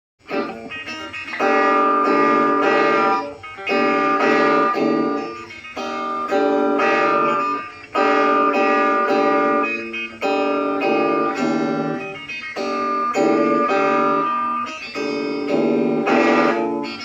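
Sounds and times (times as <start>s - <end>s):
guitar music: 0.2s - 17.0s.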